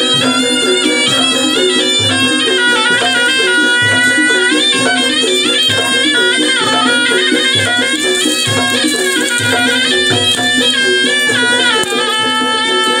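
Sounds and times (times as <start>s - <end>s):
drum beating: 0.0s - 13.0s
reedy wind instrument melody: 0.0s - 13.0s.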